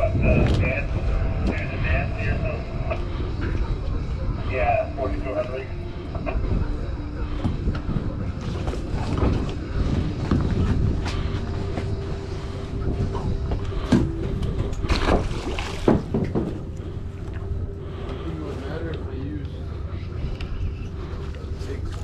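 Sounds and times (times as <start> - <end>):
boat engine running: 0.0 - 22.0
wind and water rumble: 0.0 - 22.0.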